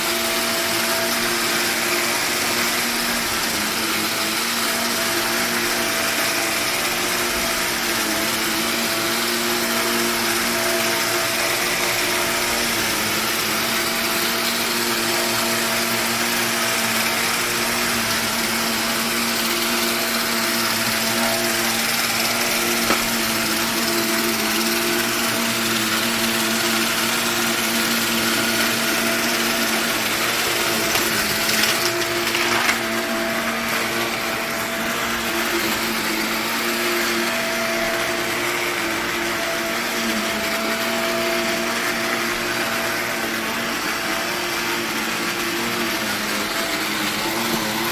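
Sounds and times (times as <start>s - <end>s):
vacuum motor whining: 0.0s - 47.9s.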